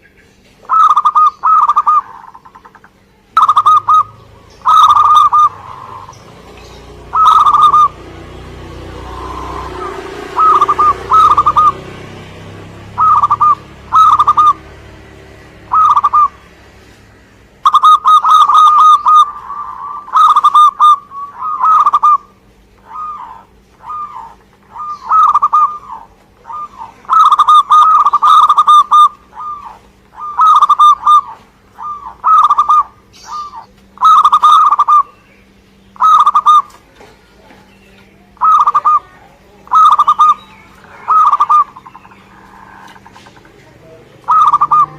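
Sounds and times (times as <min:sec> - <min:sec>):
dove cooing: 0:00.6 - 0:16.7, 0:17.6 - 0:35.2, 0:36.0 - 0:44.9.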